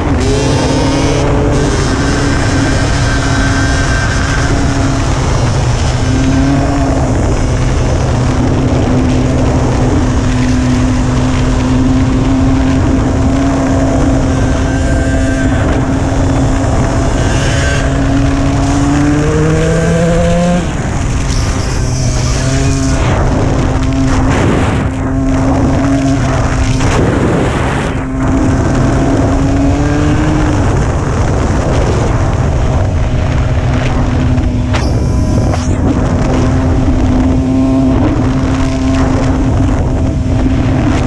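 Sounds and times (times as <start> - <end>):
dirt bike engine revving: 0.0 - 41.0
wind and road rumble: 0.0 - 41.0.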